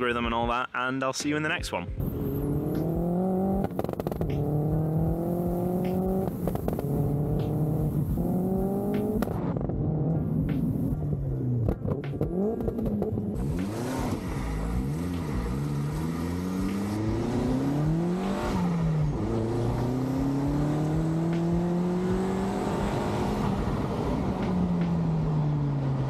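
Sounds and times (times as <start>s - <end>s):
car engine accelerating: 2.0s - 26.0s.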